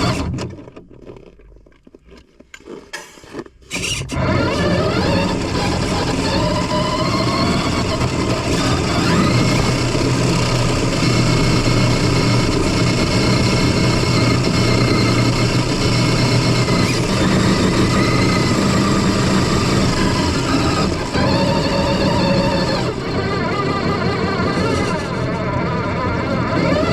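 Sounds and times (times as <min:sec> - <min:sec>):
drone motors whining: 0:00.0 - 0:00.8, 0:03.7 - 0:26.9.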